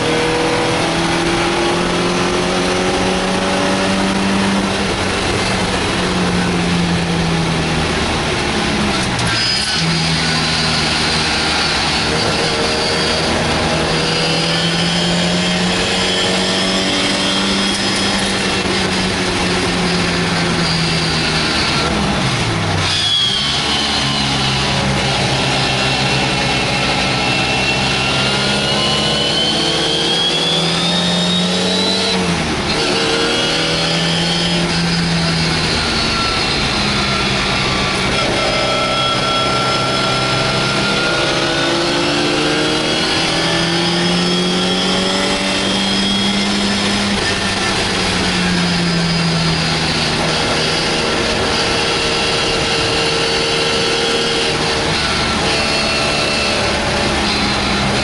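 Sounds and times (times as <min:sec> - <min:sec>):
race car engine: 0:00.0 - 0:58.0
wind and road noise: 0:00.0 - 0:58.0.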